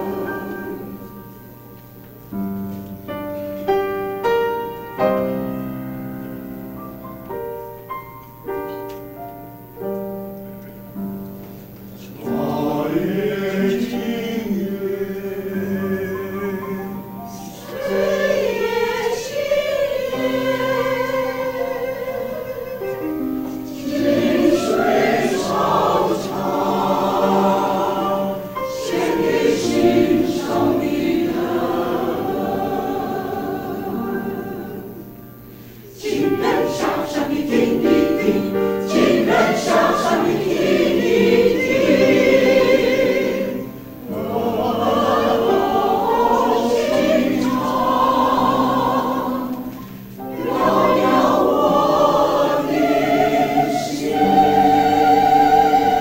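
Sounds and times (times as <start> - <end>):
mixed choir singing: 0.0 - 2.0, 12.0 - 56.0.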